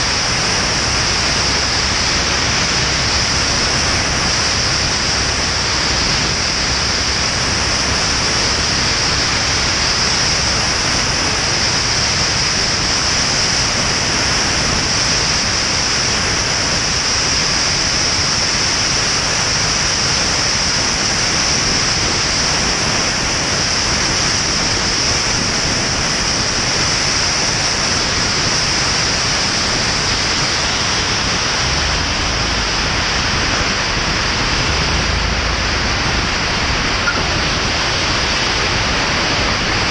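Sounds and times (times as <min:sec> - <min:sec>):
wind and propeller noise: 0:00.0 - 0:39.9.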